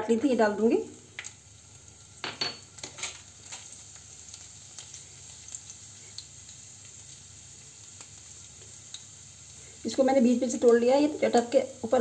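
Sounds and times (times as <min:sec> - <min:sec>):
garlic sizzling in hot oil: 0:00.0 - 0:12.0
sharp oil crackles: 0:00.5 - 0:12.0.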